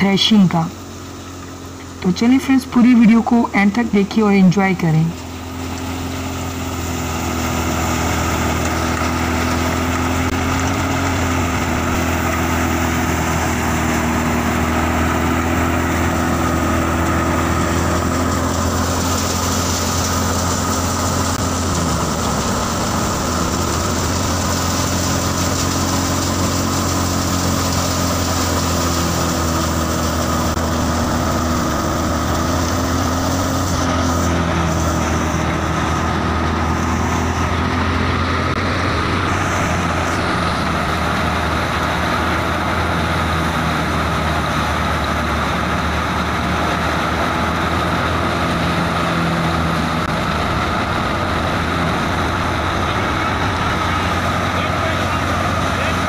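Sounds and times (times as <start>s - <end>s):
thresher and tractor engine drone: 0.0s - 56.0s.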